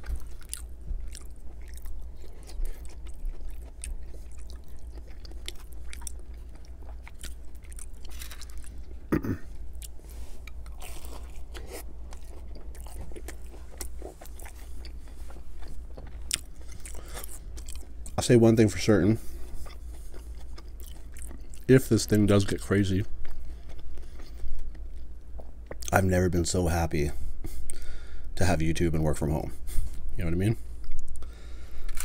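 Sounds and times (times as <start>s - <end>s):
chewing and crunching: 0.0s - 26.0s, 30.8s - 32.0s.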